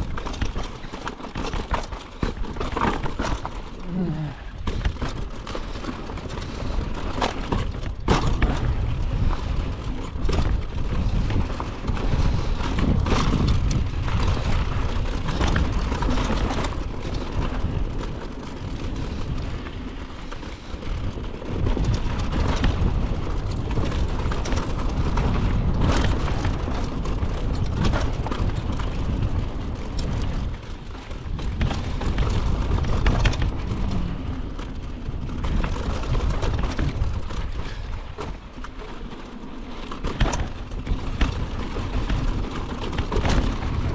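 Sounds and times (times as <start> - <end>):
bike knocks and rattles: 0.0 - 43.9
bike rumbling on dirt trail: 0.0 - 43.9.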